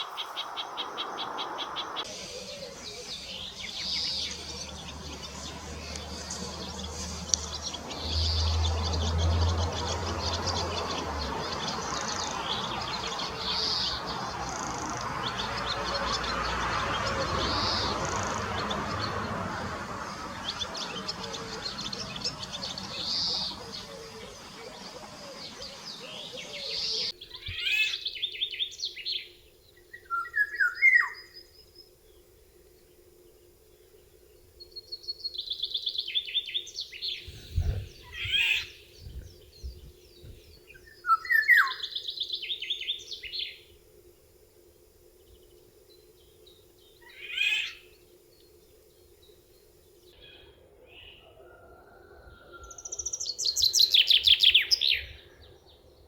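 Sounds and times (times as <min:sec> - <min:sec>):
songbirds chirping and singing: 0:00.0 - 0:43.8, 0:45.2 - 0:56.0
faint steady hum: 0:00.0 - 0:56.0.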